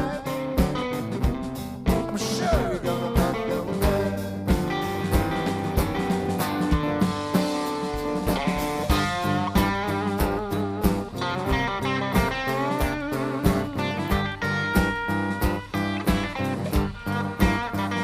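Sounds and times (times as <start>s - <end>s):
blues band playing: 0.0s - 18.0s
guitar lead with bending notes: 0.0s - 18.0s.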